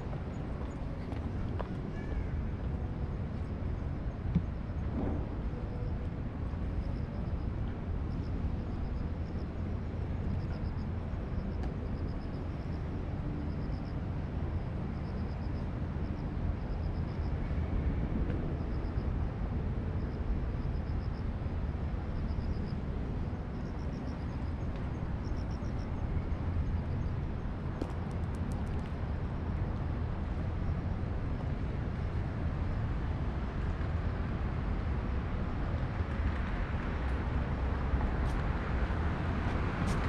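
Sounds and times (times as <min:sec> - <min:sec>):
low rumble of city traffic: 0:00.0 - 0:40.0.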